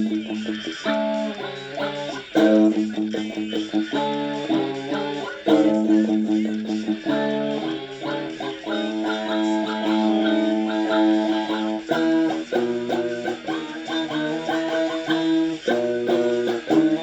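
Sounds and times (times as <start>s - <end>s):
guitar playing chords: 0.0s - 17.0s.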